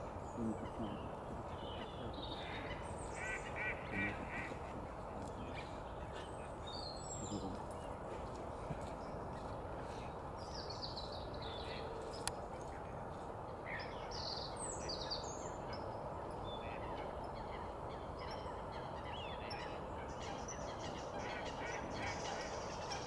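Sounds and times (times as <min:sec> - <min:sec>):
bird calls: 0:00.0 - 0:23.0
low background rush: 0:00.0 - 0:23.0.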